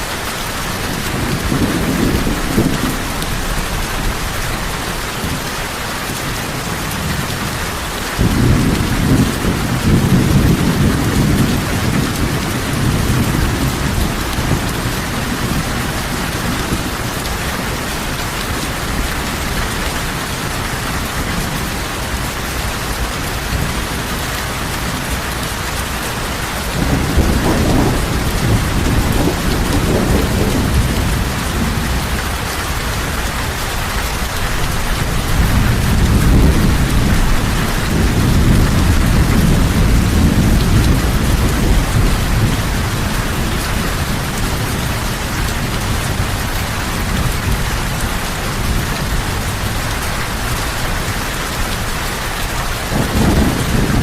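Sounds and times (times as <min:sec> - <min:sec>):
heavy rain: 0:00.0 - 0:54.0
thunder rumbling: 0:00.7 - 0:05.5, 0:06.5 - 0:54.0.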